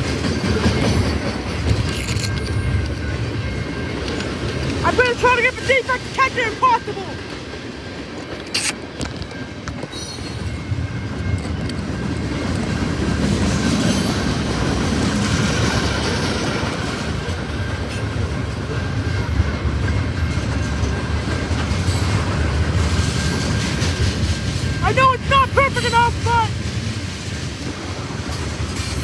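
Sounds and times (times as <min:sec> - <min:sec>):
train cars clattering over rails: 0:00.0 - 0:29.0.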